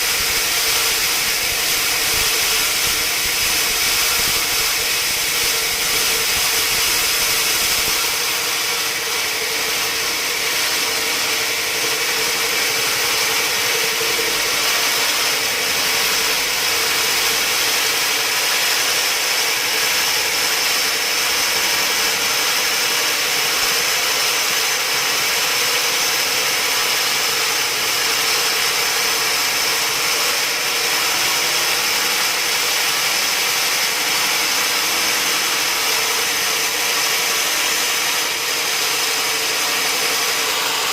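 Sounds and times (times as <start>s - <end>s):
sawmill machine whining: 0.0s - 40.9s.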